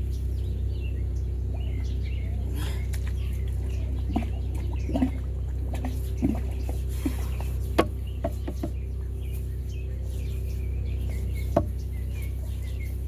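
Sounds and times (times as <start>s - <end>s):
faint birds chirping: 0.0s - 13.0s
hydro-jetter droning: 0.0s - 13.0s.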